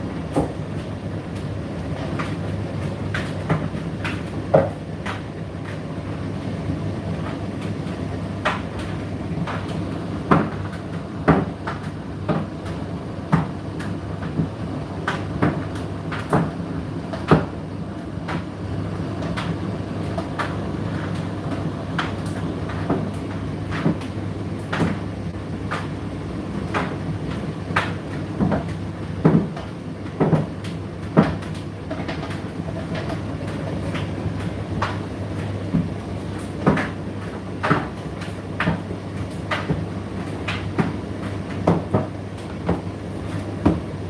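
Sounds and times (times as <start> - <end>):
dryer drum knocking: 0.0 - 44.0
tumble dryer motor hum: 0.0 - 44.0.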